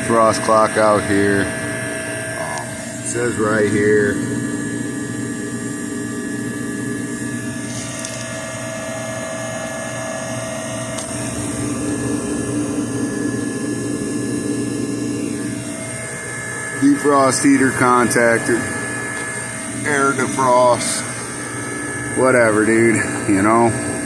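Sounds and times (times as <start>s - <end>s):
constant mechanical whine: 0.0s - 24.0s
refrigeration unit humming: 0.0s - 24.0s.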